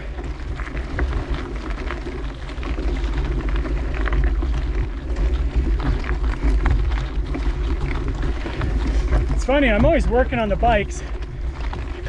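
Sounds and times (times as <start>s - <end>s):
bike rattles and clicks: 0.0s - 12.0s
tyre and trail noise: 0.0s - 12.0s
wind rumbling on microphone: 0.0s - 12.0s.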